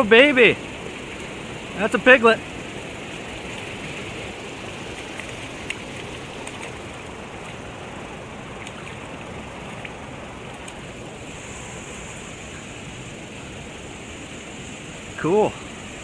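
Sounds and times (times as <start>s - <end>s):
river current rushing: 0.0s - 16.0s
fish splashing in water: 0.7s - 15.0s.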